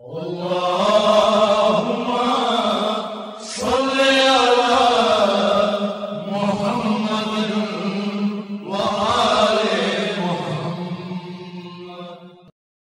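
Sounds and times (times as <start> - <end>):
person chanting: 0.0 - 12.5.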